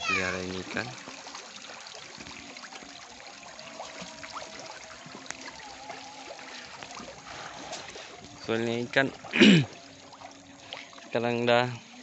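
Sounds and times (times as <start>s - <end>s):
small splashes and clicks: 0.0s - 11.3s
river water trickling and lapping: 0.0s - 12.0s.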